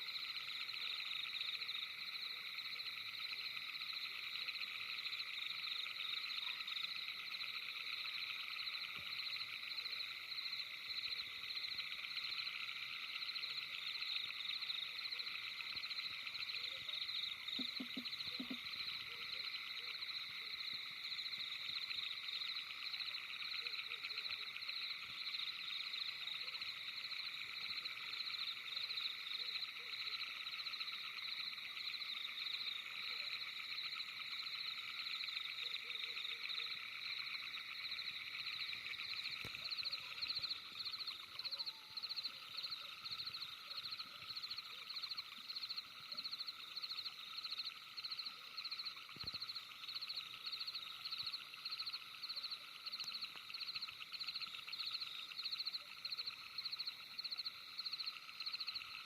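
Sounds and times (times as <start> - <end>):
night animal chorus trilling: 0.0 - 59.0.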